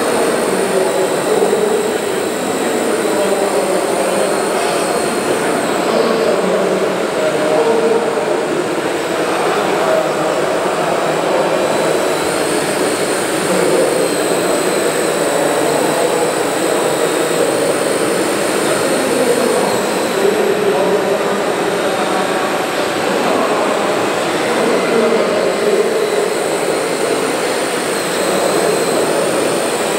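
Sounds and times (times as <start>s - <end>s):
hydraulic pump whine: 0.0s - 29.9s
murmur of crowded hall: 0.0s - 29.9s.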